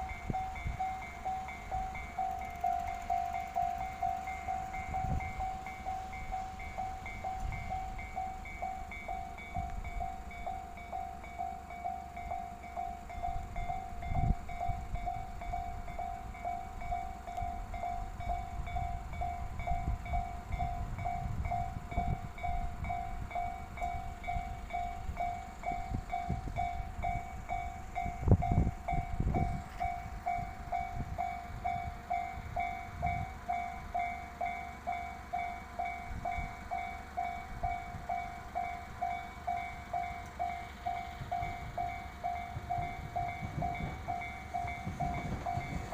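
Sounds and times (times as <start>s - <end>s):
level crossing alarm bell ringing: 0.0s - 45.9s
train rumbling past: 0.0s - 45.9s.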